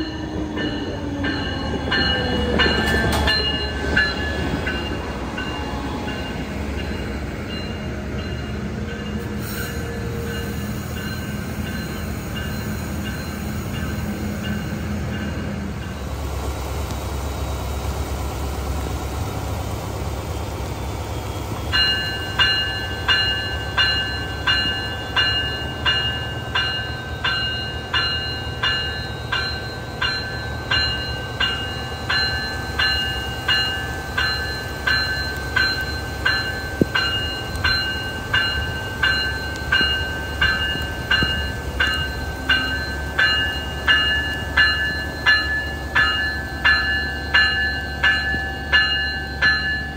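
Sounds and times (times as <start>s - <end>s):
locomotive bell ringing: 0.0s - 16.2s, 21.7s - 49.9s.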